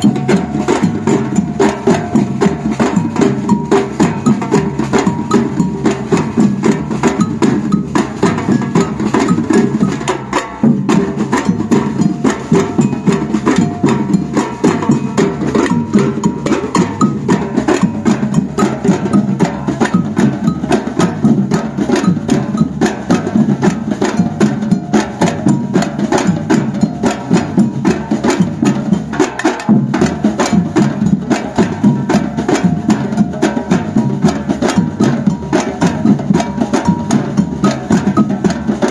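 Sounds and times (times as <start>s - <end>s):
samba percussion band: 0.0s - 38.9s.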